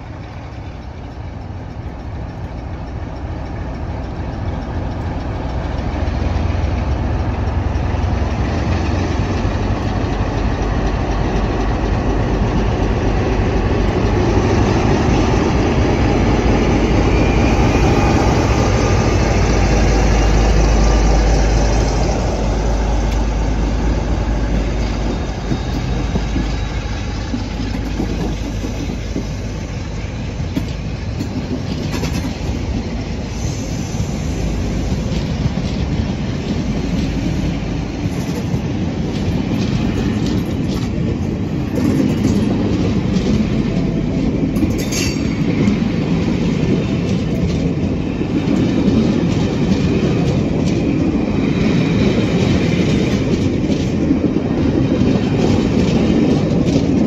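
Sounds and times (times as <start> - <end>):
diesel locomotive engine rumble: 0.0 - 57.0
train wheels clicking over rail joints: 0.0 - 57.0.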